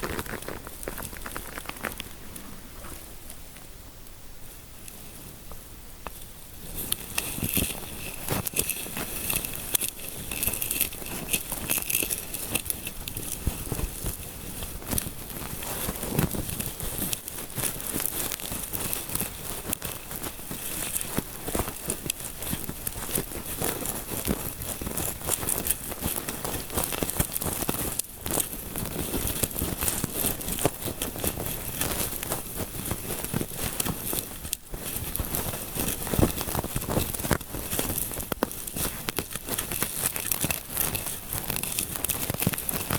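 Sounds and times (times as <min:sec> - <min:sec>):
fingers scratching through hair: 0:00.0 - 0:03.0, 0:06.8 - 0:42.9.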